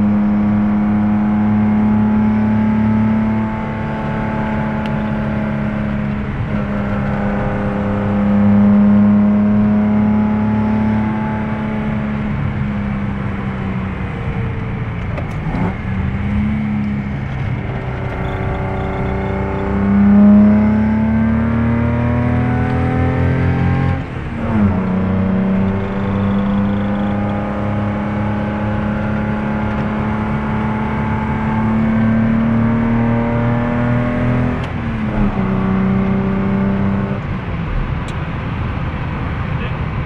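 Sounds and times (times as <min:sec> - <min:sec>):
car engine accelerating through gears: 0:00.0 - 0:40.0.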